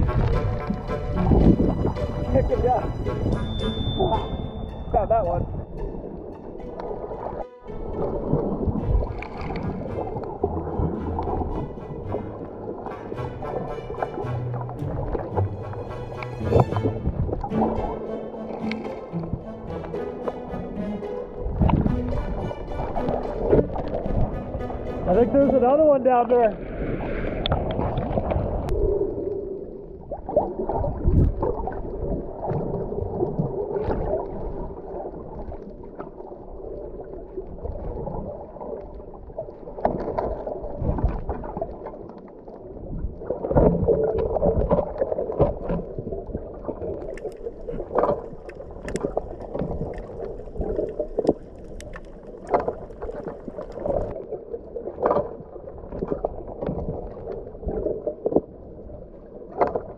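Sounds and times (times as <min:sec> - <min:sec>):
muffled underwater gurgling: 0:00.0 - 0:59.9.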